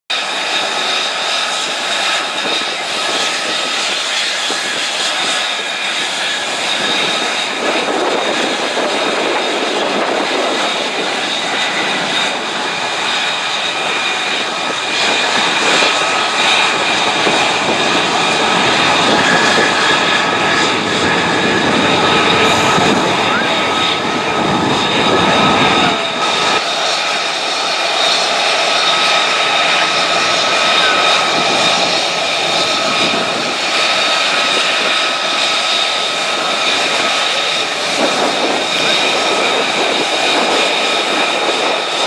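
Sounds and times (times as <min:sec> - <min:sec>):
jet engines during takeoff: 0:00.1 - 0:42.0.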